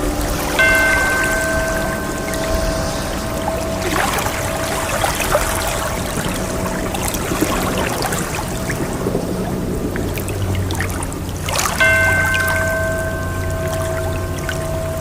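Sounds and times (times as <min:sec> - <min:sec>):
ringing tone: 0:00.0 - 0:09.8, 0:11.8 - 0:15.0
ocean waves washing: 0:00.0 - 0:15.0.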